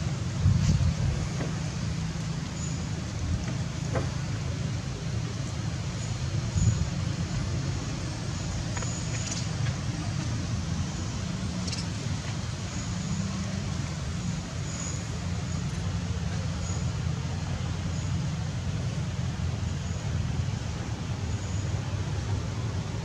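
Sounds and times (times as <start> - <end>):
constant hiss: 0.0 - 23.0.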